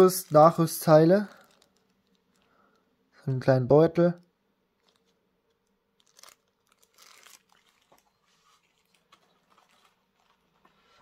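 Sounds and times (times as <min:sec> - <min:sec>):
plastic packaging crinkling: 0:00.0 - 0:02.9, 0:04.7 - 0:11.0.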